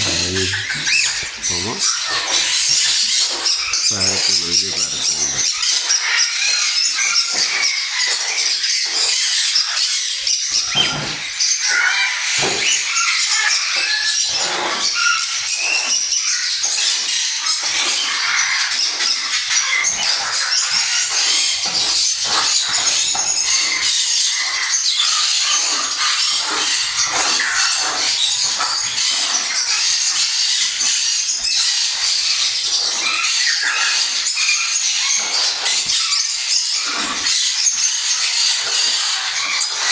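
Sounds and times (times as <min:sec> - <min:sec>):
parrots chattering and screeching: 0:00.0 - 0:39.9.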